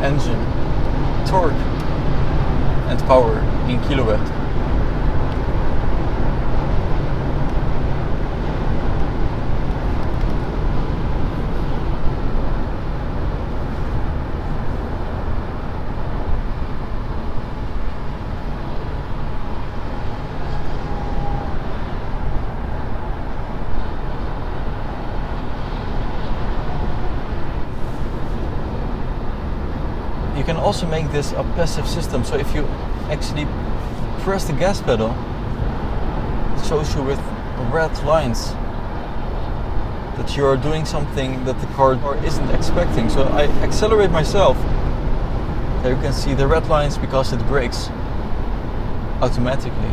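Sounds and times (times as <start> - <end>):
car cabin road noise: 0.0 - 49.9.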